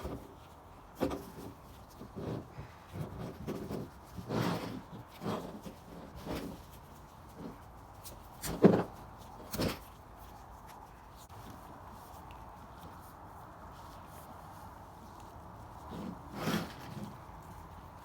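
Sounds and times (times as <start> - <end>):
exhaust wrap rubbing and scraping: 0.0 - 18.0.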